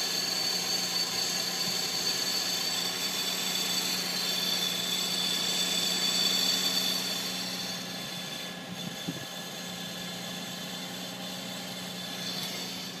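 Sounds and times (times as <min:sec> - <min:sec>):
metallic whine: 0:00.0 - 0:13.0.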